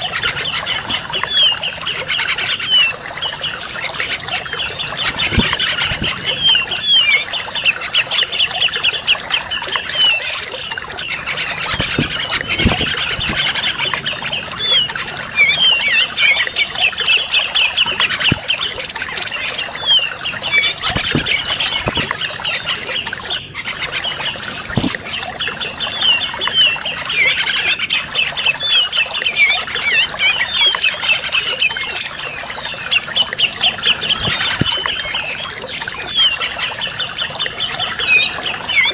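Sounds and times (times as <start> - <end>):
bird harsh chattering trills: 0.0 - 32.4.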